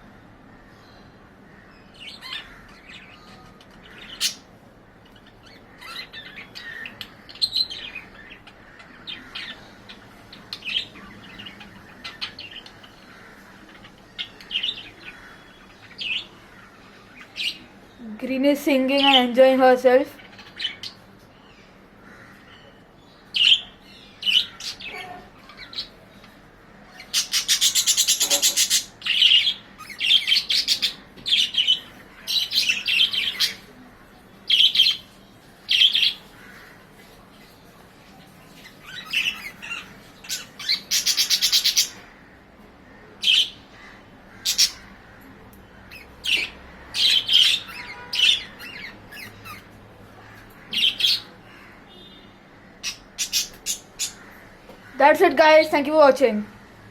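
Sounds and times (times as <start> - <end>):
budgerigars chirping and warbling: 0.9 - 17.9, 20.1 - 21.3, 22.0 - 33.8, 34.5 - 37.2, 38.1 - 54.7.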